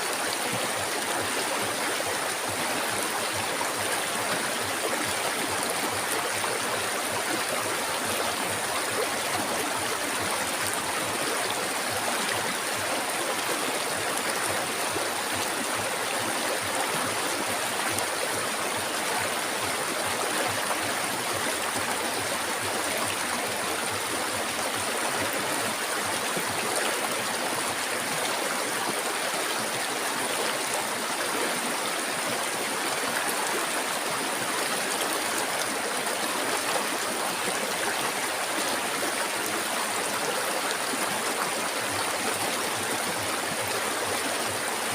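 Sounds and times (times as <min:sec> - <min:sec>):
river water flowing: 0:00.0 - 0:44.9.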